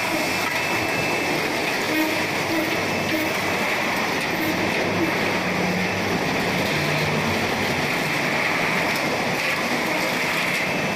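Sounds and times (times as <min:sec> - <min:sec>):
production line machinery running: 0:00.0 - 0:10.9.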